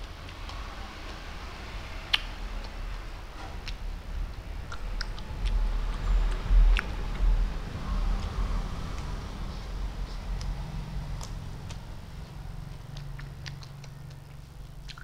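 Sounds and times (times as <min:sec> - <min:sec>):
mouth chewing sounds: 0:00.0 - 0:15.0.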